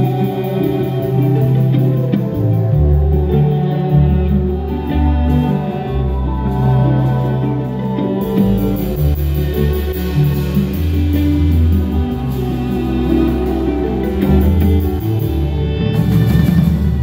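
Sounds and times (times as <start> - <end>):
live band instrumental music: 0.0 - 17.0.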